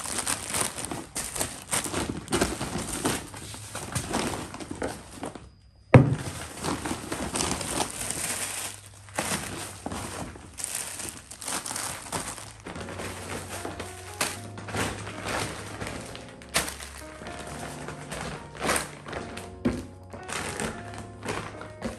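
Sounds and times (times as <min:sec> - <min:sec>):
plastic packets crinkling: 0:00.0 - 0:05.5, 0:06.2 - 0:21.9.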